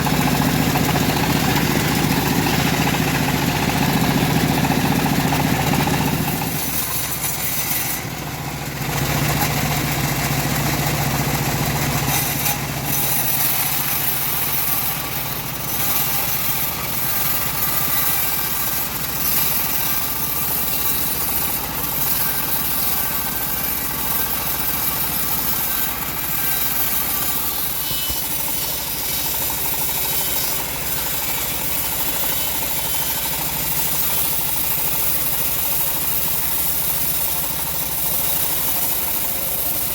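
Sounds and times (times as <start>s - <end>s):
bandsaw blade hissing through log: 0.0s - 39.9s
engine drone: 0.0s - 39.9s.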